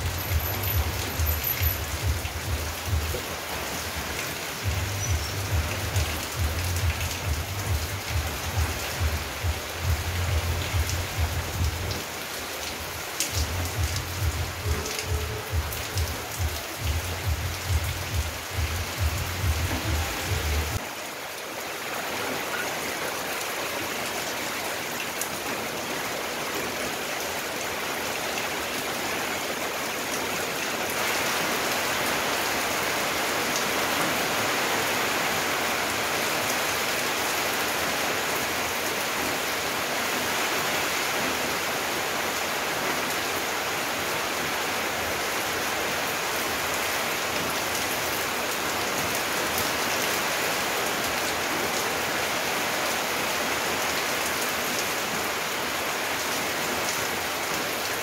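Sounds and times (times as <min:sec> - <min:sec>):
rain on plants and wet pavement: 0:00.0 - 0:58.0.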